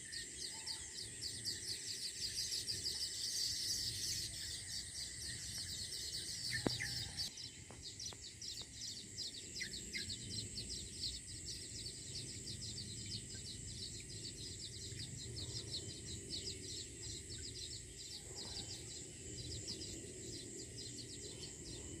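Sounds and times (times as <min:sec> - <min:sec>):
bird chirps: 0:00.0 - 0:22.0
insect trilling: 0:00.0 - 0:22.0.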